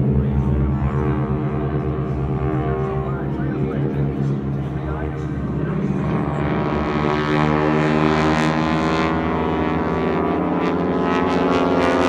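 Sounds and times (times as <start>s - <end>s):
airplane engines droning: 0.0s - 12.0s.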